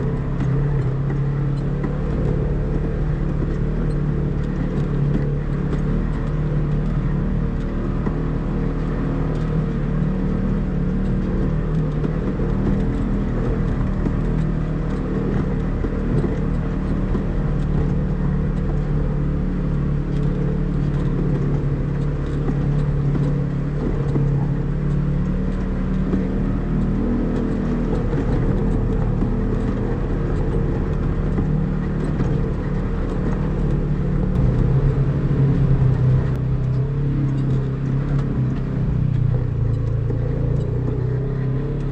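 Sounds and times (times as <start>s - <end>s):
off-road vehicle engine: 0.0s - 41.9s.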